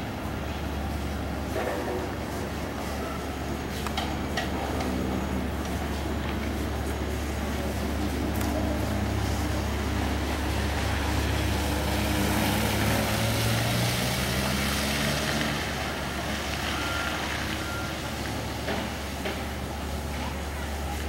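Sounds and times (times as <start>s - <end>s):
low road rumble: 0.0s - 21.0s
vehicle engine running: 0.0s - 21.0s.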